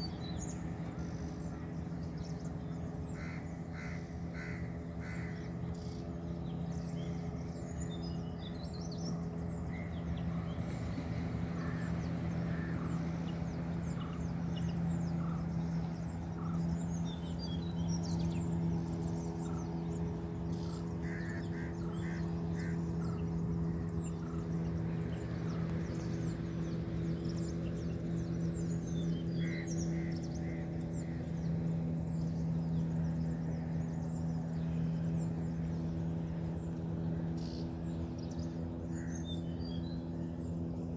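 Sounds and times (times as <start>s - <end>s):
birds chirping: 0.0s - 40.9s
low hum: 0.0s - 40.9s.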